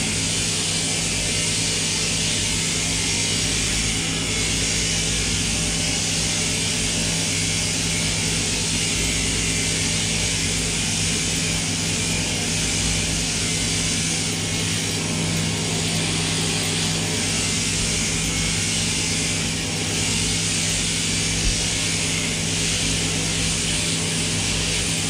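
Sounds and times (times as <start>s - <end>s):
sheep-shearing machinery humming: 0.0s - 25.0s.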